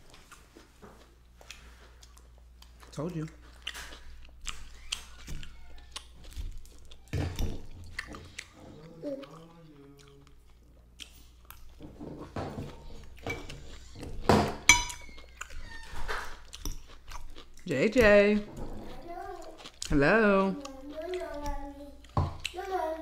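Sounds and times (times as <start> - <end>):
chewing and biting food: 0.0 - 11.8, 14.9 - 22.7.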